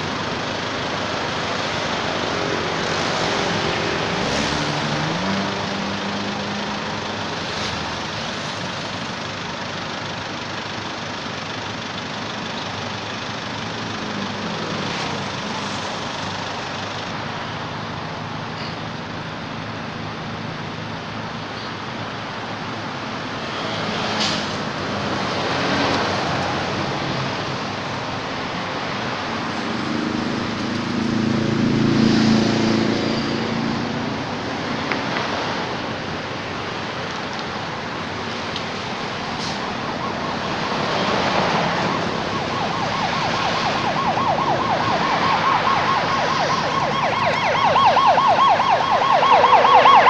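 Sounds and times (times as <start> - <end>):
passing vehicle engines: 0.0 - 50.0
road traffic noise: 0.0 - 50.0.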